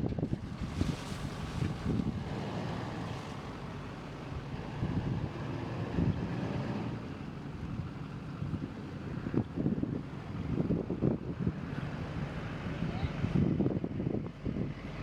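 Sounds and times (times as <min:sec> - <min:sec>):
wind buffeting microphone: 0:00.0 - 0:03.5, 0:04.3 - 0:14.8.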